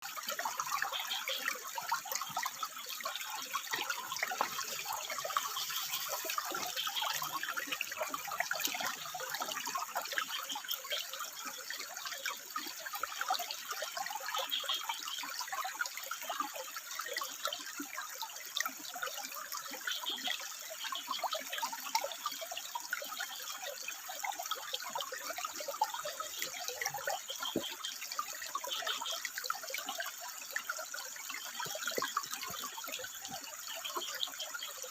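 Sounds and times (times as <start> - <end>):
water trickling over rocks: 0.0 - 34.9.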